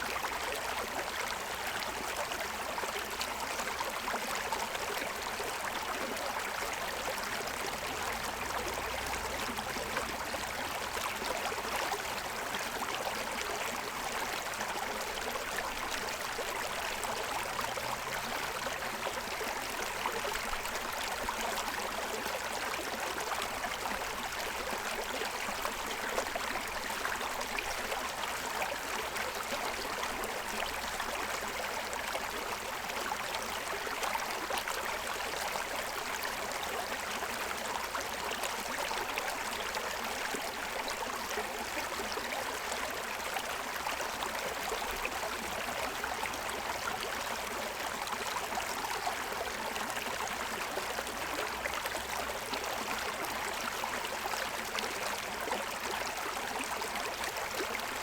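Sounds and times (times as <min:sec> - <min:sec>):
stream burbling over stones: 0:00.0 - 0:58.0.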